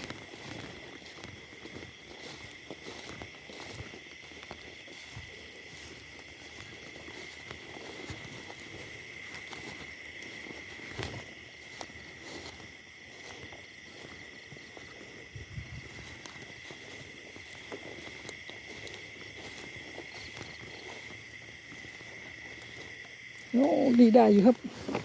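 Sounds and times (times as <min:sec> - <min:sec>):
footsteps through grass: 0:00.0 - 0:25.0
night insects chirring: 0:00.0 - 0:25.0.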